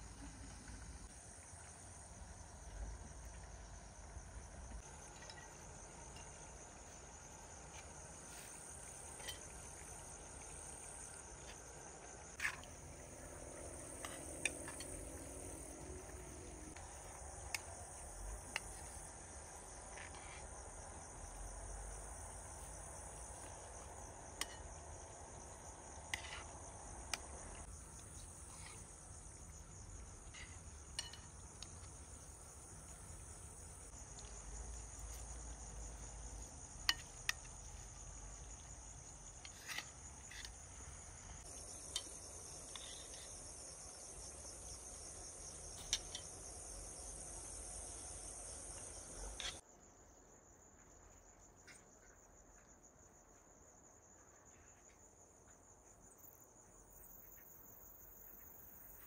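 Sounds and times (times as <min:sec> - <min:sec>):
high-pitched insect chorus: 0:08.0 - 0:53.2, 0:53.8 - 0:59.0.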